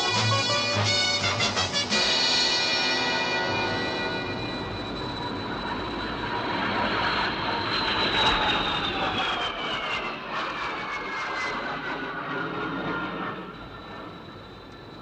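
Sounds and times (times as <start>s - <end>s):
jet aircraft roaring past: 0.0s - 15.0s.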